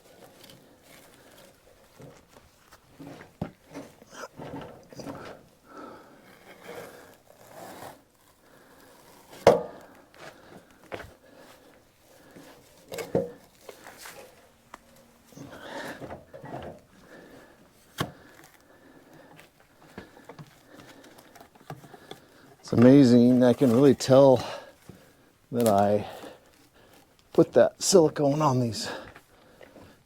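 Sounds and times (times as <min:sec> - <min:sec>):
heavy log scraping along deck: 0:00.0 - 0:30.0.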